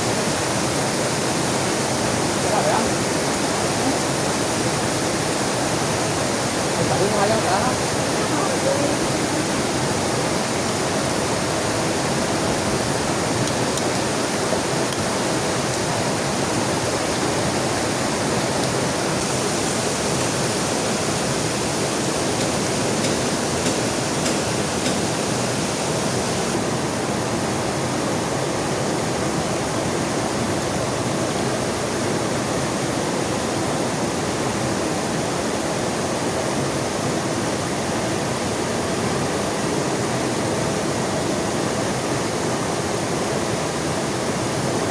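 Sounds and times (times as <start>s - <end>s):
heavy rain falling: 0.0s - 44.9s
rushing river: 0.0s - 44.9s.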